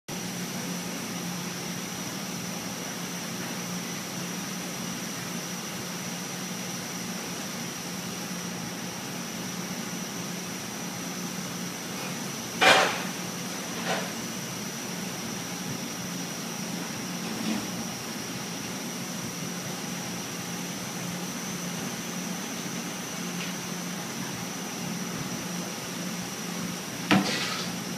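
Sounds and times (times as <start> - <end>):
dishwasher machine hum and whine: 0.1 - 27.9.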